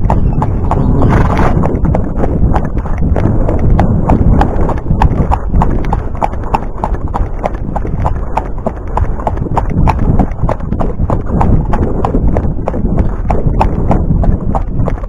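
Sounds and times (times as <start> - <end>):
horse hooves clip-clopping on dirt: 0.0 - 15.0
low rumble: 0.0 - 15.0.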